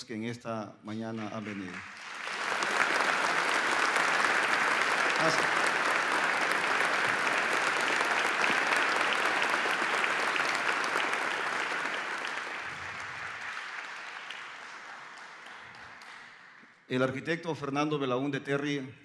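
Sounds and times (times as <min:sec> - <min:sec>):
audience clapping: 0:00.9 - 0:17.1.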